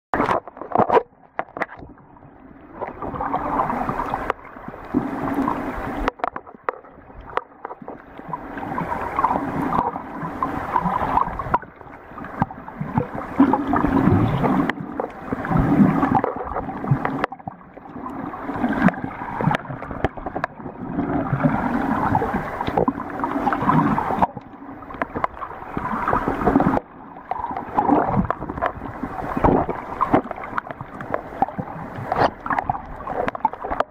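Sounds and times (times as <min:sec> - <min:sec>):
muffled underwater sloshing: 0:00.1 - 0:33.9.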